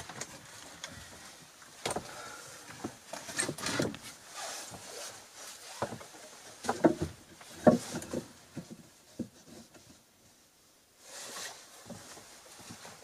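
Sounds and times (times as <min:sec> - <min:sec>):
short rustle: 0:00.1 - 0:06.8, 0:07.4 - 0:13.0.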